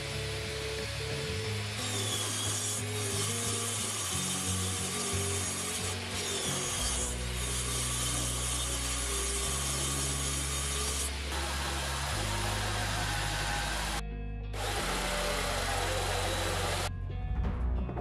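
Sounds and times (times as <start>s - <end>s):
table saw cutting plywood: 0.0s - 14.0s, 14.6s - 16.9s
background music: 0.0s - 18.0s.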